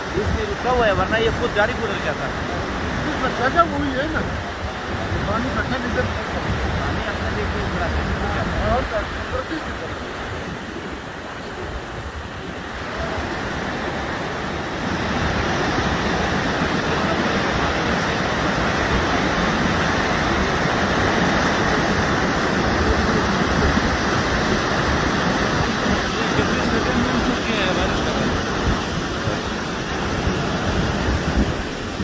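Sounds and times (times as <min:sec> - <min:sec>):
flood water rushing: 0:00.0 - 0:32.0.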